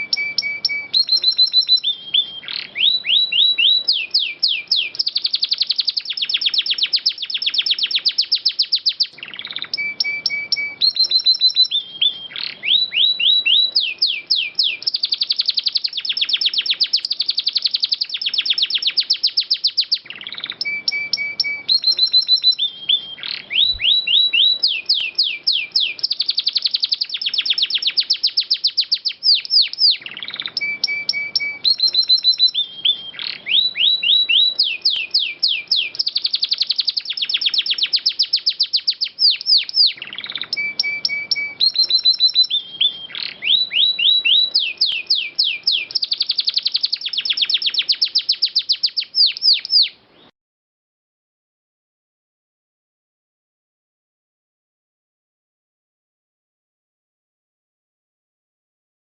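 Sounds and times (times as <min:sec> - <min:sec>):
canary singing: 0:00.0 - 0:50.3.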